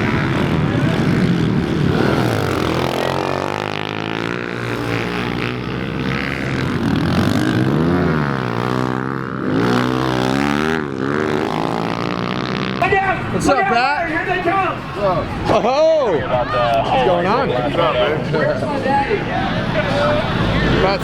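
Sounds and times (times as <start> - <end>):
pit bike engines revving: 0.0 - 21.0.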